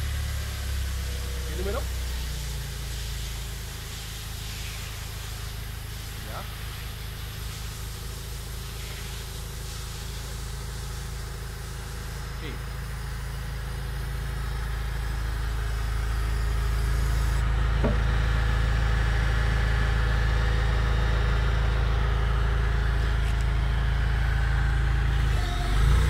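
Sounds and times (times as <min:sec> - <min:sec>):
forklift engine idling: 0:00.0 - 0:26.0.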